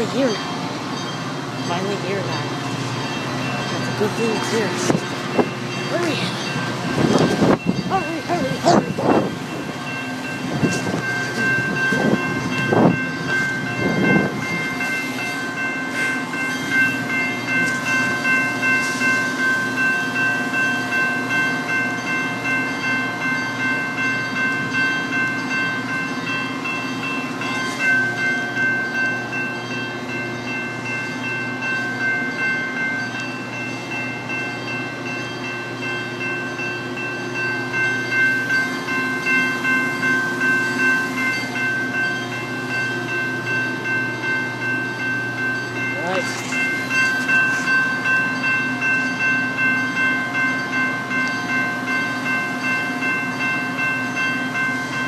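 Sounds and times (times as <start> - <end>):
railroad crossing bell ringing: 0.0 - 55.0
train engine running: 0.0 - 55.0.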